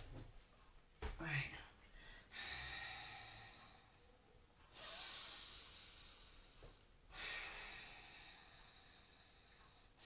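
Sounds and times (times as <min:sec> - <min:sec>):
woman breathing: 0:01.5 - 0:10.0.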